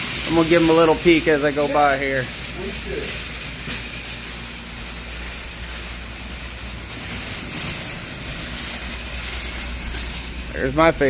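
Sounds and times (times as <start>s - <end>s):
constant hiss: 0.0s - 11.0s
shopping cart rolling on concrete: 0.0s - 11.0s.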